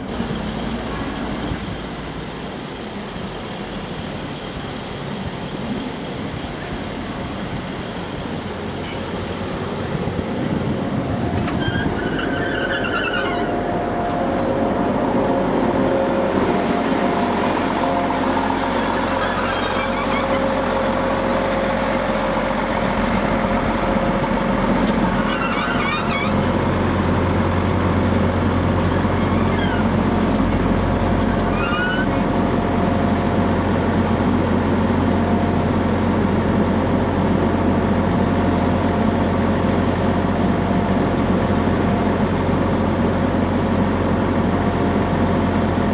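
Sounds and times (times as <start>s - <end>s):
diesel train engines running: 0.0s - 45.9s.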